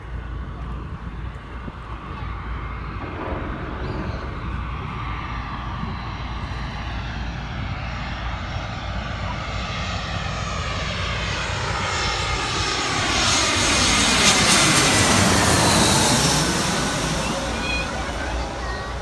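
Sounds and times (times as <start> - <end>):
airliner engine noise: 0.0 - 19.0.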